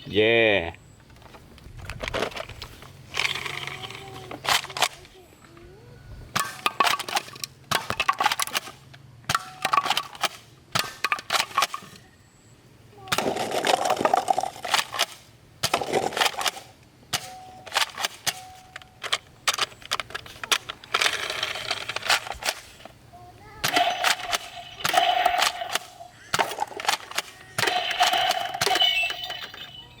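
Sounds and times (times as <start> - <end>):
toy guns clicking and rattling: 2.1 - 5.1, 6.4 - 8.8, 9.4 - 12.0, 13.1 - 30.0.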